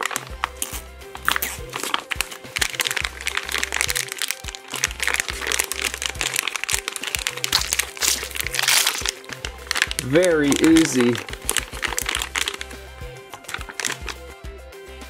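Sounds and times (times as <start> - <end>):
plastic pack crinkling: 0.0 - 14.3.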